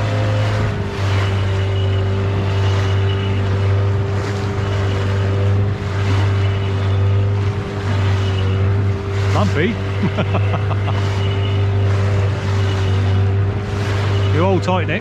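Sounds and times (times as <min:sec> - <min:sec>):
outboard motor droning: 0:00.0 - 0:15.0
rushing water: 0:00.0 - 0:15.0.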